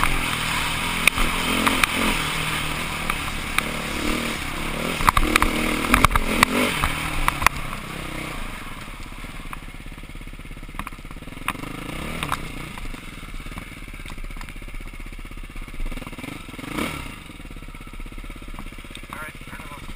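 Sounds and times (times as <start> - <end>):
dirt bike engine puttering: 0.0 - 19.9
dirt bike engine revving: 0.0 - 19.9.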